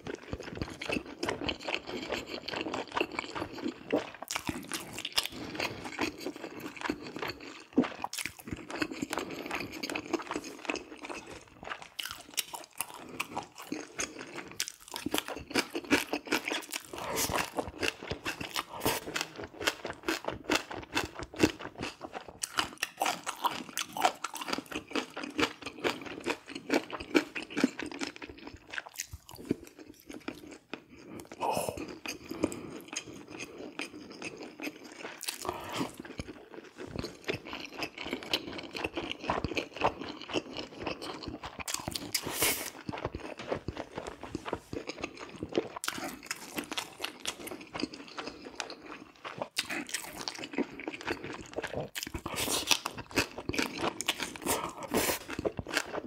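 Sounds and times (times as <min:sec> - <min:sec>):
person chewing with wet mouth clicks: 0:00.0 - 0:56.0.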